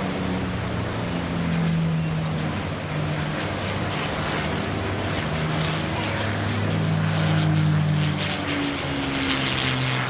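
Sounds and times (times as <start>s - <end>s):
propeller plane engine droning: 0.0s - 10.0s
wind: 0.0s - 10.0s.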